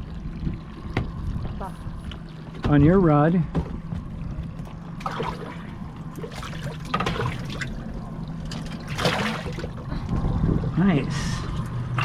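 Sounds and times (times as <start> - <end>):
idling boat motor hum: 0.0 - 12.0
water splashing and trickling: 0.0 - 12.0.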